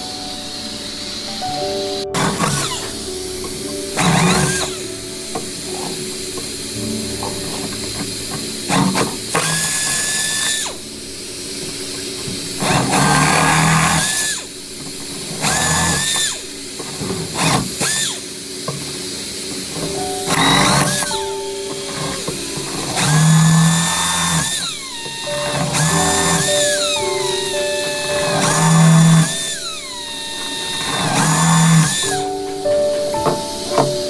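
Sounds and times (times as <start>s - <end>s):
power drill whining: 0.2s - 34.0s.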